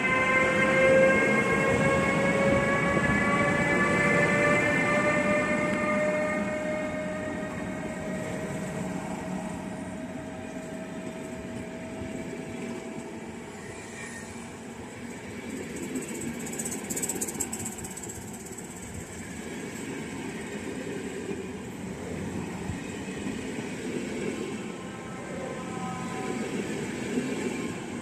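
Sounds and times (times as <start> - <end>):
train mechanical whine: 0.0 - 28.0
train rumble: 0.0 - 28.0.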